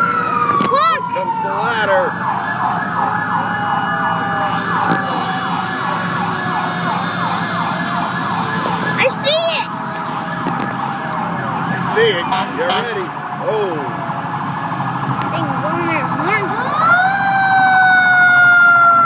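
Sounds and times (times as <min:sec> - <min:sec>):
hum of passing vehicles: 0:00.0 - 0:19.0
siren yelping: 0:00.0 - 0:19.0.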